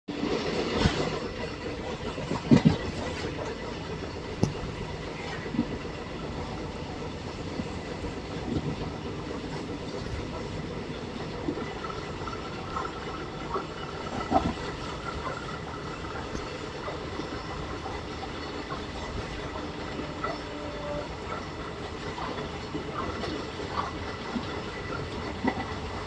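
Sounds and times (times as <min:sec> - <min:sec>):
train rumbling on track: 0:00.1 - 0:26.0.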